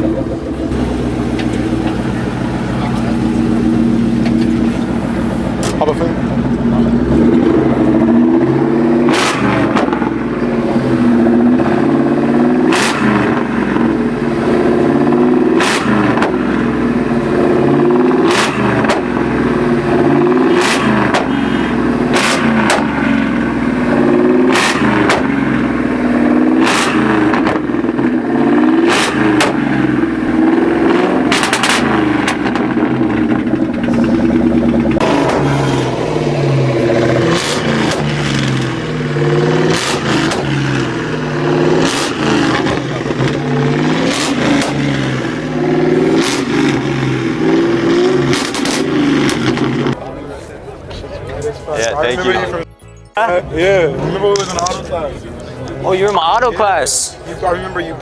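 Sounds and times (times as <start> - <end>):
car engine revving hard: 0.0 - 50.0
exhaust bangs: 0.0 - 52.6.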